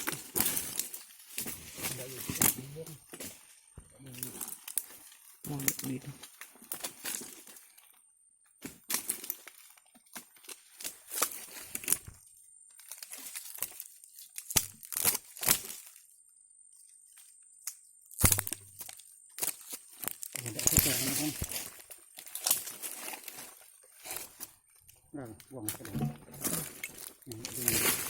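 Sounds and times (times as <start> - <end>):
dry twigs and leaves snapping: 0.0 - 8.0, 8.6 - 16.1, 17.1 - 28.0.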